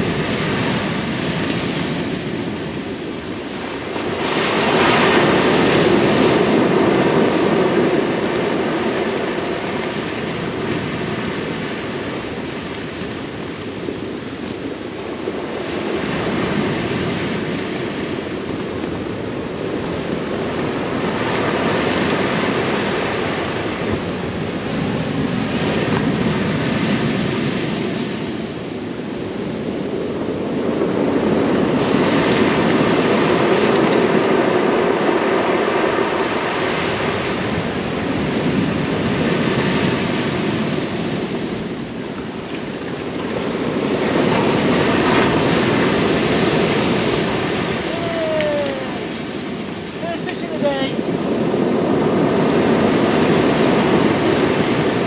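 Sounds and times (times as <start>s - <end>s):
surf washing over pebbles: 0.0s - 55.0s
wind on microphone: 0.0s - 55.0s.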